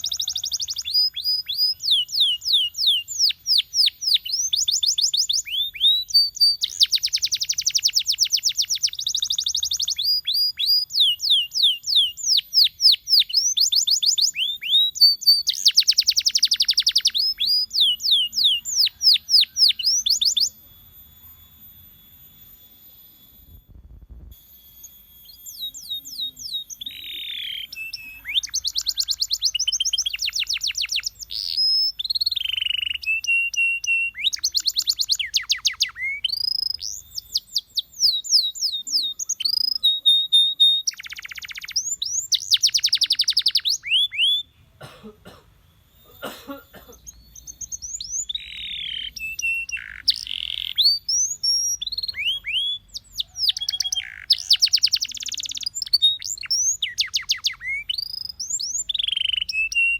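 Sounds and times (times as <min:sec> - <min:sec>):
canary singing: 0:00.0 - 0:24.1, 0:24.7 - 0:44.8, 0:45.7 - 0:59.9.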